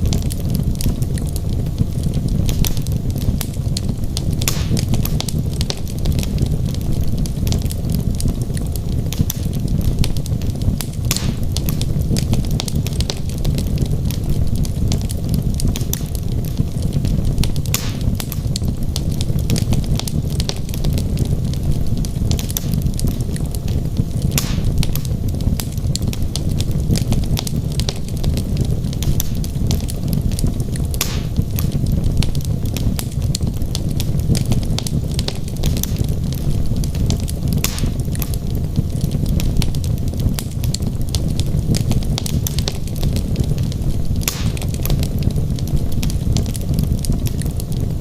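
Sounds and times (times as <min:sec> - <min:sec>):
fire flames rumbling: 0:00.0 - 0:48.0
logs crackling and popping: 0:00.0 - 0:48.0.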